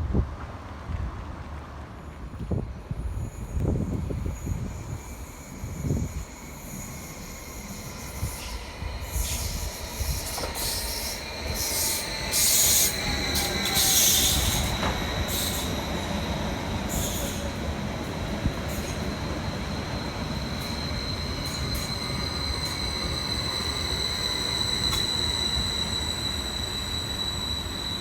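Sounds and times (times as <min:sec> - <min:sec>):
train rumble: 0:00.0 - 0:28.0
high-pitched metallic wheel squeals: 0:03.1 - 0:17.5, 0:18.7 - 0:28.0.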